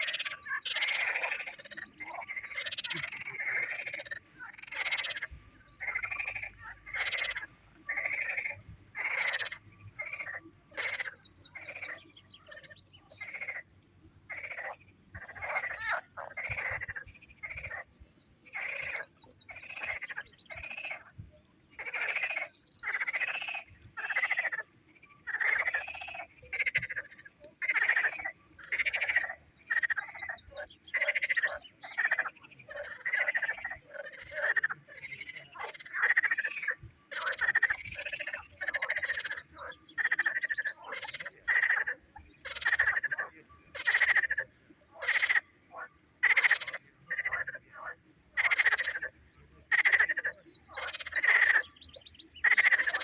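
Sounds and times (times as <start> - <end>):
frogs calling: 0.0 - 53.0.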